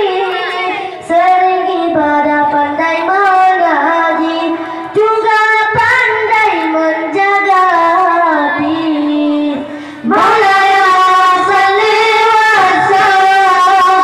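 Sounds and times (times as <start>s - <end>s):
boys chanting in unison: 0.0s - 14.0s.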